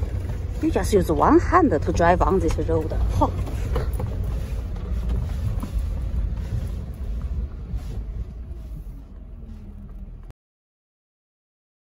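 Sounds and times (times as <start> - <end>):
vehicle rumble on dirt road: 0.0 - 10.3.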